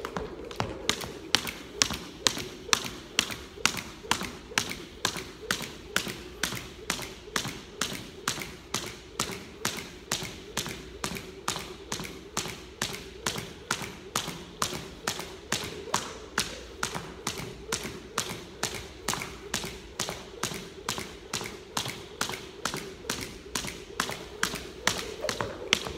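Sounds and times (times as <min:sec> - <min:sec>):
jump rope slapping wooden floor: 0:00.0 - 0:25.9.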